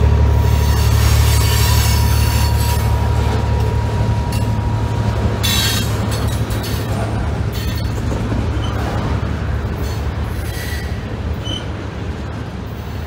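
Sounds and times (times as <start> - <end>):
train wheels rumbling on bridge: 0.0 - 13.0.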